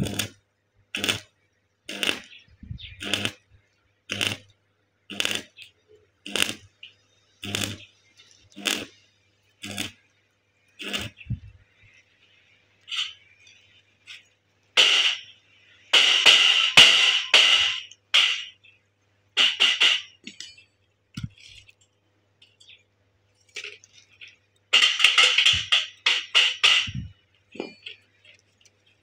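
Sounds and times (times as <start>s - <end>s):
welding arc crackling: 0.0s - 4.5s, 5.1s - 18.7s, 19.3s - 29.0s.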